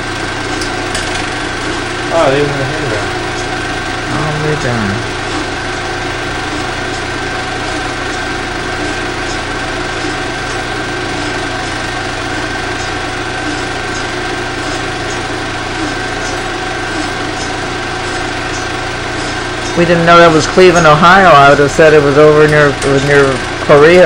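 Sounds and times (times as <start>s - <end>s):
film projector running: 0.0s - 24.0s.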